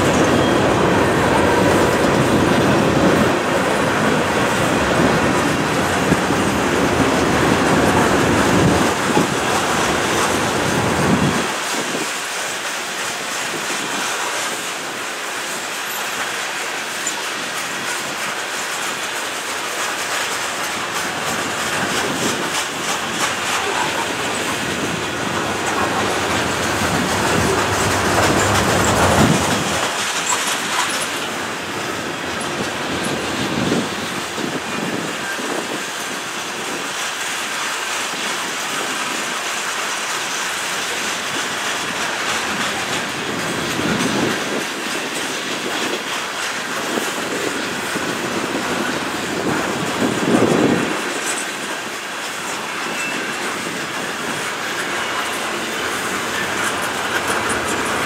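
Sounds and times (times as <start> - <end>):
freight train wheels clicking: 0.0 - 58.0.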